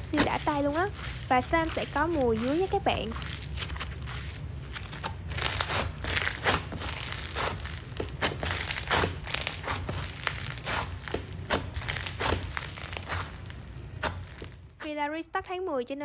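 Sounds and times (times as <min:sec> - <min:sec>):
slime crackling and popping: 0:00.0 - 0:14.9.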